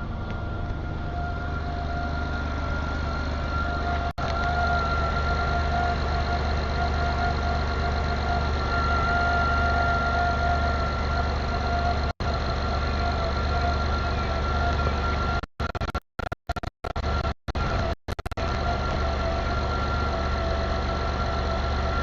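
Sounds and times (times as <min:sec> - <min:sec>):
car engine idling: 0:00.0 - 0:22.0
high-pitched whine: 0:00.0 - 0:22.0.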